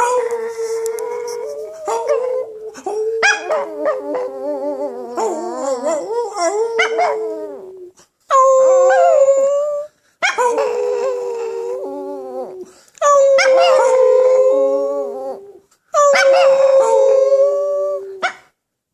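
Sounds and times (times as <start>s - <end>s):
dog howling: 0.0s - 18.3s.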